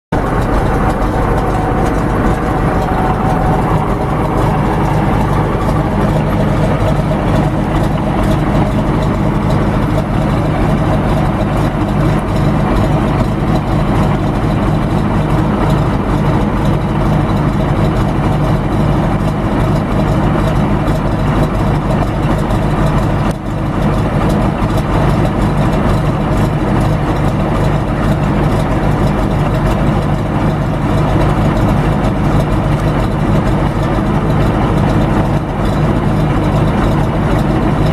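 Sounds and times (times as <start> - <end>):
bus engine idling: 0.1 - 37.9.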